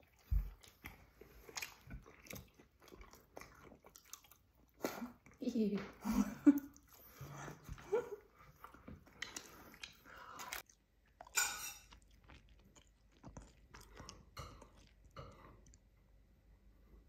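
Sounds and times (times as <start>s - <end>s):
person chewing bread: 0.0s - 5.4s, 6.4s - 16.8s.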